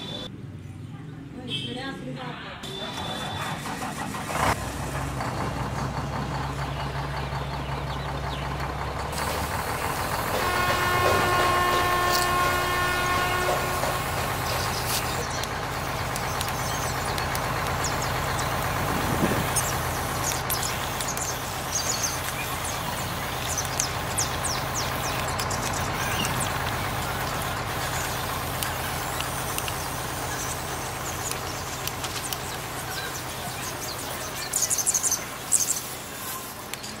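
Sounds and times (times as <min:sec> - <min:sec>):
toy truck drive hum: 0:02.7 - 0:37.0.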